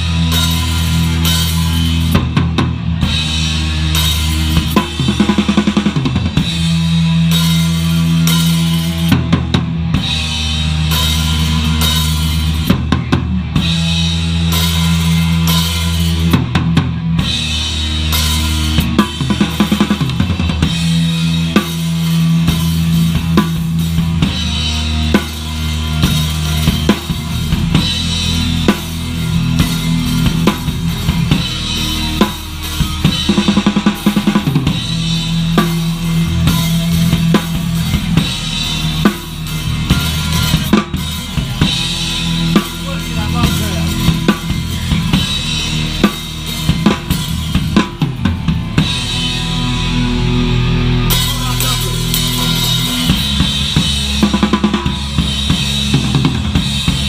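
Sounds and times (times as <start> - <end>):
live punk band playing: 0.0 - 57.0
pounding drum kit: 0.0 - 57.0.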